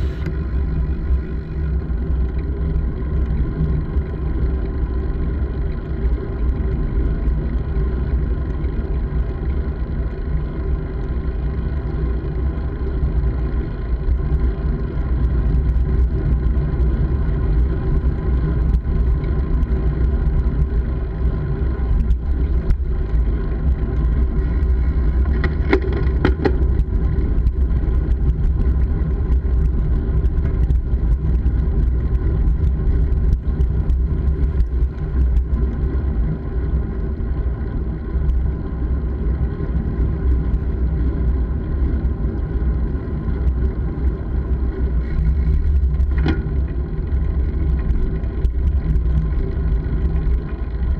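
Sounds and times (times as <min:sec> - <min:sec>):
wind and road noise rumble: 0:00.0 - 0:50.9.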